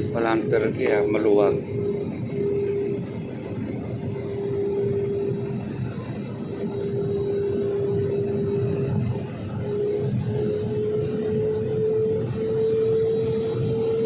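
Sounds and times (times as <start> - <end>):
droning hum tone: 0.0 - 14.0
jet engine and airflow rush: 0.0 - 14.0.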